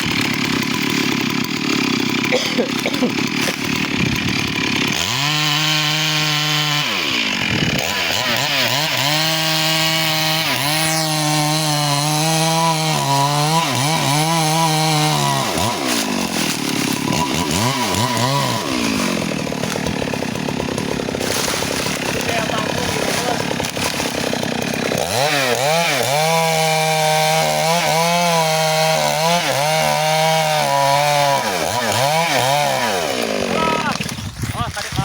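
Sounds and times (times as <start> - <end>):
chainsaw cutting log: 0.0 - 35.0.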